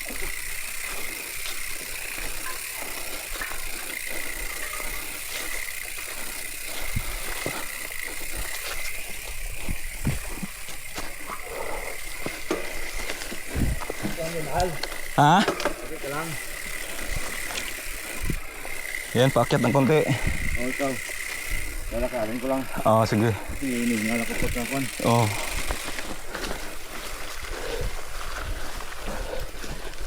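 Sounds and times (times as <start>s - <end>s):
bike rattling and clanking: 0.0s - 30.0s.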